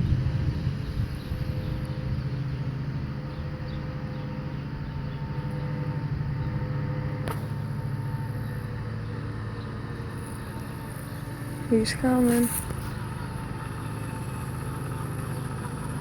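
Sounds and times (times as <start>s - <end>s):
faint dirt bike engine: 0.0s - 16.0s.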